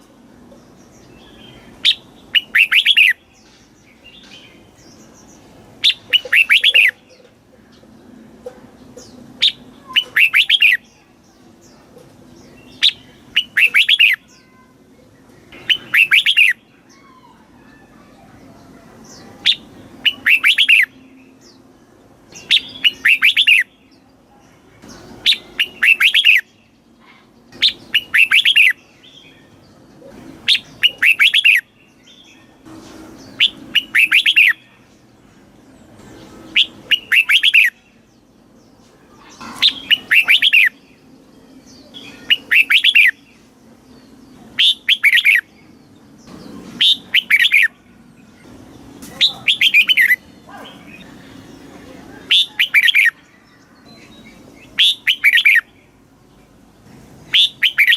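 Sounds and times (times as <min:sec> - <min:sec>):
bird singing: 0:00.0 - 0:57.9.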